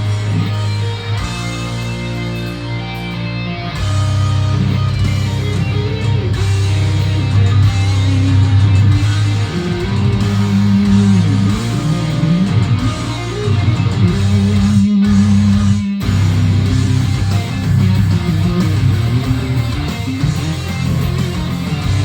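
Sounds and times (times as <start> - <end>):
heavy metal electric guitar: 0.0 - 22.0.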